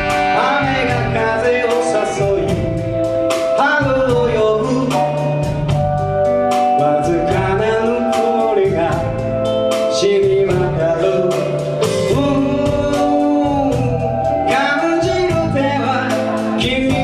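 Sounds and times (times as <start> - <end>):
person singing: 0.0 - 5.8, 6.5 - 17.0
live band playing slow song: 0.0 - 17.0.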